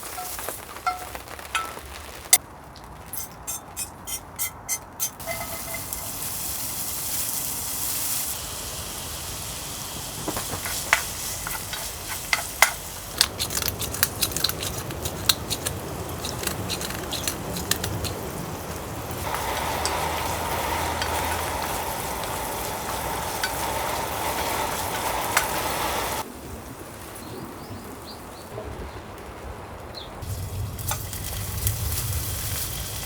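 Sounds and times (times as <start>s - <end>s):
food sizzling in a pan: 0.0s - 2.4s, 3.2s - 26.2s, 30.2s - 33.0s
crackling pops and spatters: 0.0s - 4.2s, 5.2s - 26.3s, 30.2s - 33.0s.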